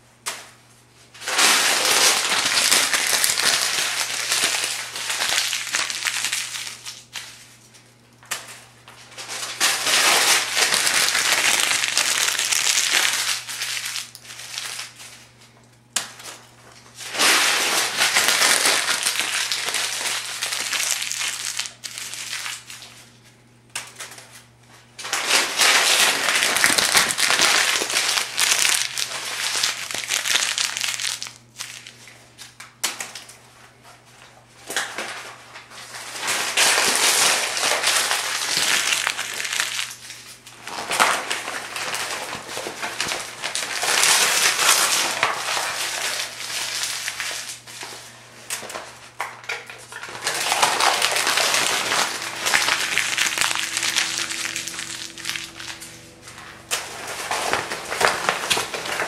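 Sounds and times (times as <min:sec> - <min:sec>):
paper pages crumpling: 0:01.2 - 0:07.7, 0:09.1 - 0:15.3, 0:17.0 - 0:23.2, 0:25.1 - 0:32.1, 0:34.8 - 0:49.2, 0:49.9 - 0:59.0.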